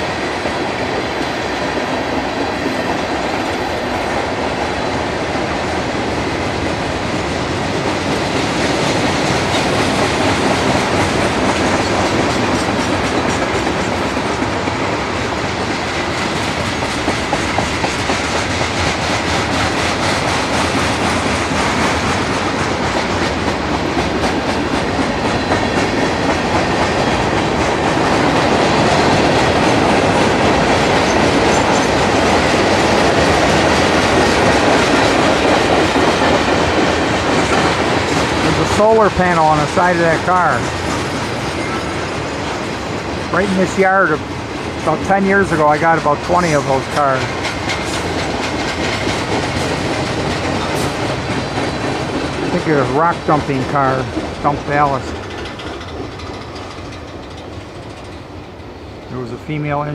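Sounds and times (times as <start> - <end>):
wheels clacking over rail joints: 0.0 - 59.8
train wheels rumbling on rails: 0.0 - 59.9.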